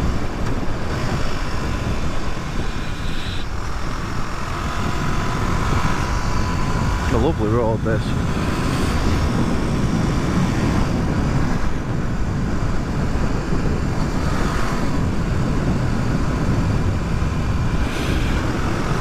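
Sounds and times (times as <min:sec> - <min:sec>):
motorcycle engine running: 0:00.0 - 0:19.0
riding wind rushing: 0:00.0 - 0:19.0.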